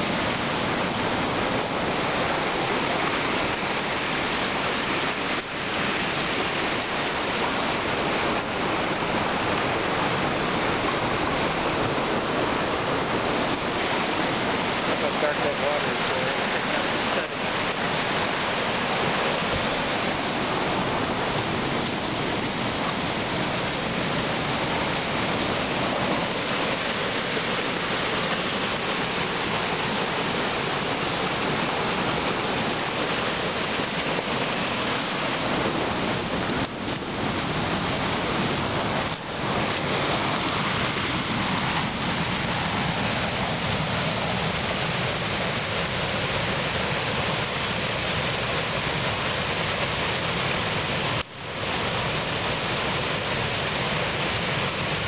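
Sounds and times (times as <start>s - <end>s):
water rushing down a dam spillway: 0.0s - 55.0s
white-water rapids churning: 0.0s - 55.0s.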